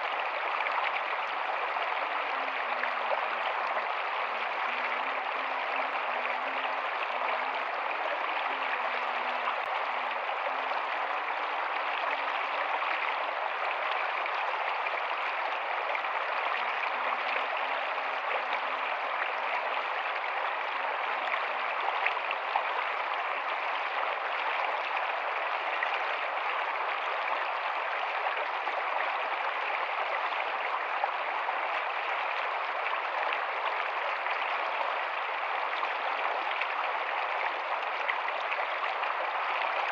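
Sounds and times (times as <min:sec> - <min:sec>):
faint low gurgles: 0:00.0 - 0:39.9.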